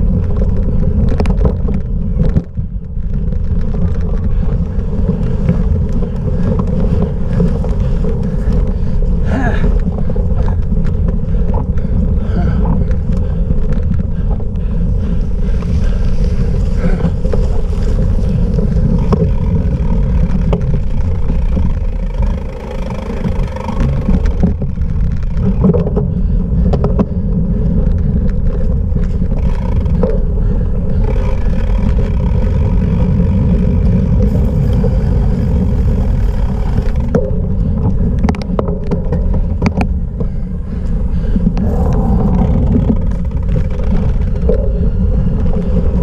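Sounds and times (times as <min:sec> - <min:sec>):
bike clicks and rattles: 0:00.0 - 0:46.0
bike rumbling over rough ground: 0:00.0 - 0:46.0
wind buffeting microphone: 0:00.0 - 0:46.0.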